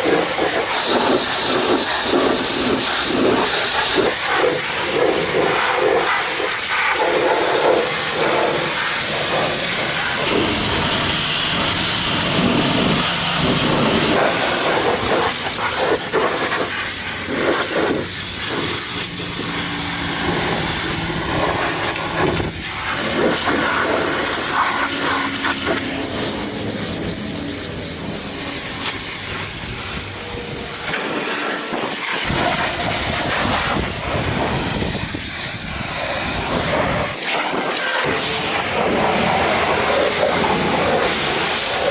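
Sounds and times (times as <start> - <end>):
pressure washer spraying water: 0.0 - 41.9.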